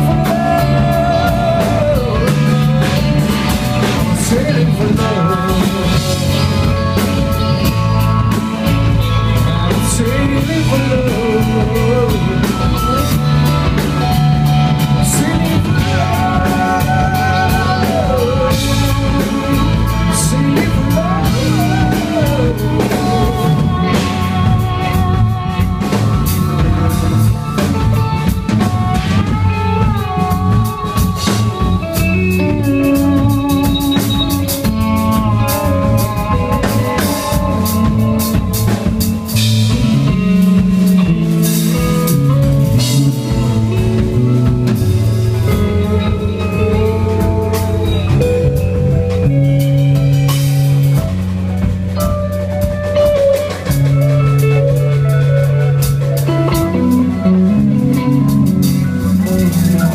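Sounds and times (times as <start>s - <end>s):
bass line: 0.0s - 59.9s
drum kit: 0.0s - 59.9s
electric guitar lead: 0.0s - 59.9s.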